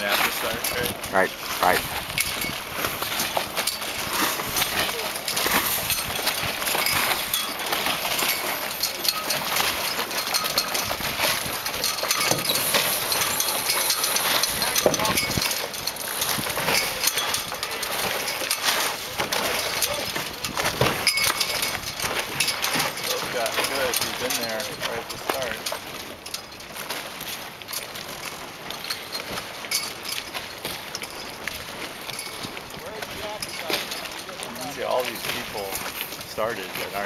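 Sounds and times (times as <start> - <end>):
water noise: 0.0 - 37.0.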